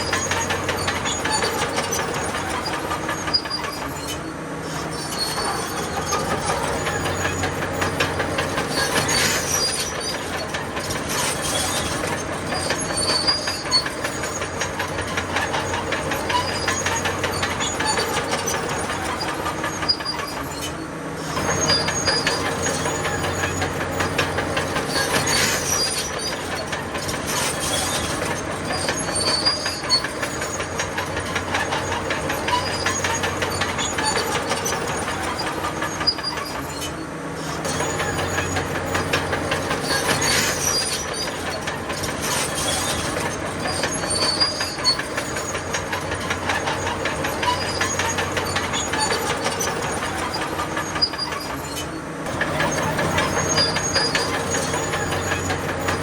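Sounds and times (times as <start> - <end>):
clatter of tracks: 0.0 - 56.0
diesel engine running: 0.0 - 56.0.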